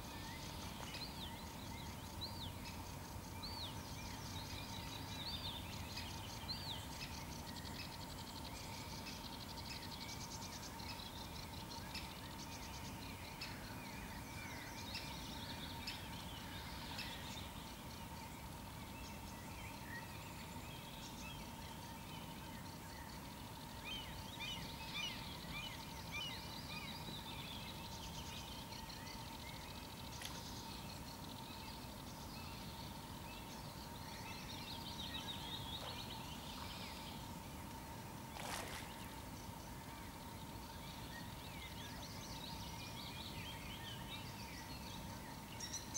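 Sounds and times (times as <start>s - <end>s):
faint steady hum: 0.0s - 45.9s
songbirds chirping and trilling: 0.0s - 45.9s.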